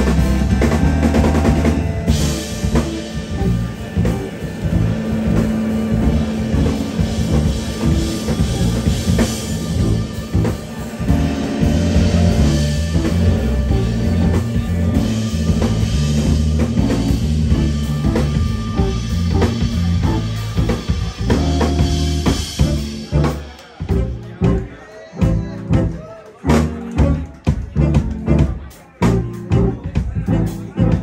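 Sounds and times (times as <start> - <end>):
bass line: 0.0 - 31.0
drum kit: 0.0 - 31.0
electric guitar: 0.0 - 31.0
keyboard: 0.0 - 31.0
saxophone: 0.0 - 31.0.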